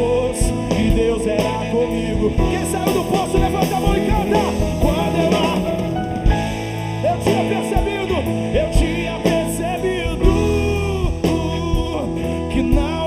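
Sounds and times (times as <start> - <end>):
drum kit: 0.0 - 13.0
electric guitar: 0.0 - 13.0
live band playing: 0.0 - 13.0
person singing: 0.0 - 13.0.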